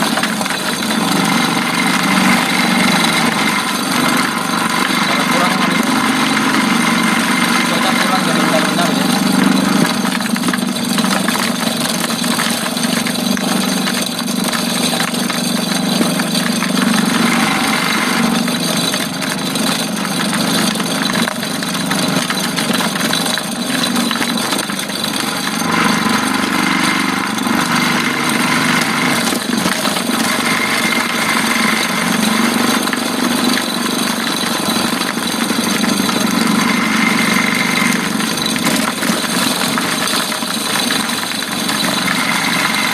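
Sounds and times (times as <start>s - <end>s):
chopper grinding fruit: 0.0s - 42.9s
small engine running: 0.0s - 42.9s.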